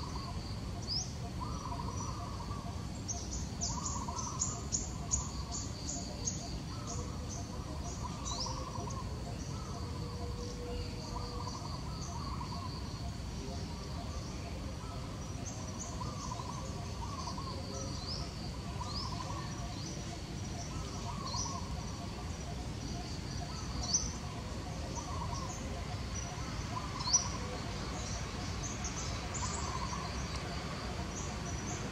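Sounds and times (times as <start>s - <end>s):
birds chirping: 0.0s - 31.9s
insect trilling: 0.0s - 31.9s.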